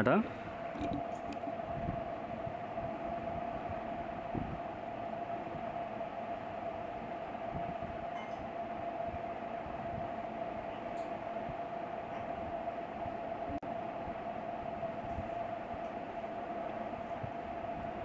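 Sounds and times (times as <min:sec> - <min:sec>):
constant mid-pitched hum: 0:00.0 - 0:18.0.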